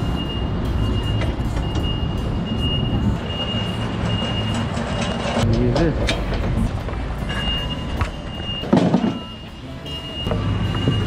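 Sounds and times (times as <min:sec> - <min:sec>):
pallet jack wheels rumbling: 0:00.0 - 0:09.4.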